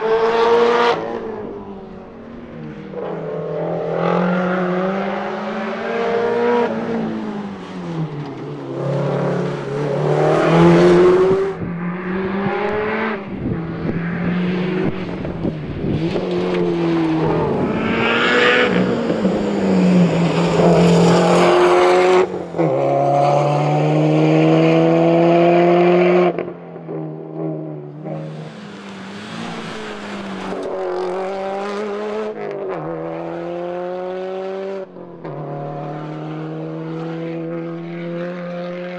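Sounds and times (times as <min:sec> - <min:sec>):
rally car engine at full throttle: 0:00.0 - 0:38.9.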